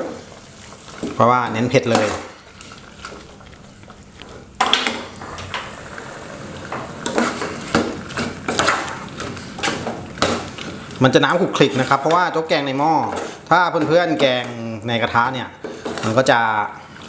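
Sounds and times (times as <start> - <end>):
metal spoon stirring in saucepan: 0.1 - 5.7, 6.5 - 14.6.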